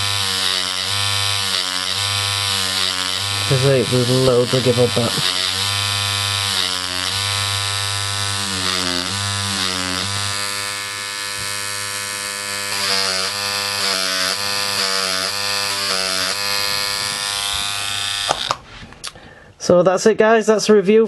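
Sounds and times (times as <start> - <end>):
tattoo machine buzzing: 0.0 - 18.6.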